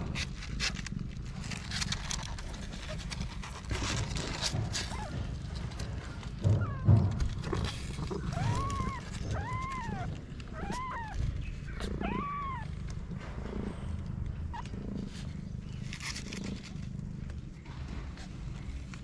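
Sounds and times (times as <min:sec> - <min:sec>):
low steady rumble: 0:00.0 - 0:19.0
kittens mewing: 0:01.5 - 0:17.4.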